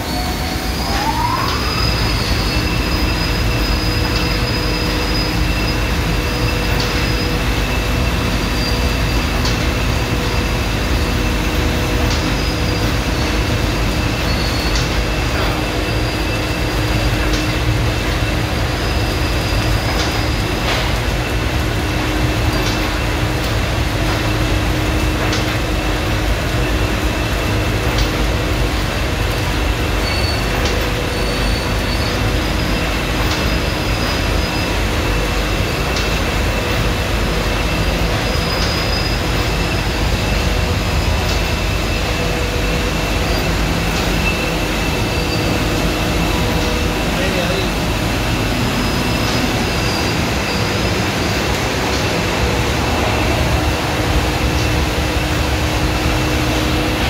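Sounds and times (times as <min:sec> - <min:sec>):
car wash mechanical rumble: 0:00.0 - 0:57.0
steady machine whines: 0:00.0 - 0:57.0.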